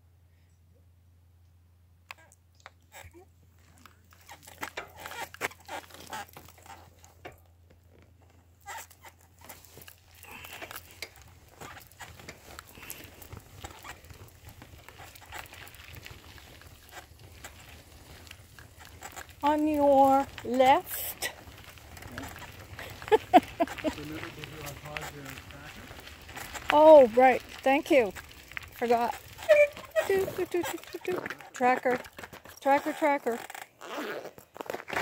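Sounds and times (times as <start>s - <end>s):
bicycle tyres crunching gravel: 2.7s - 35.0s.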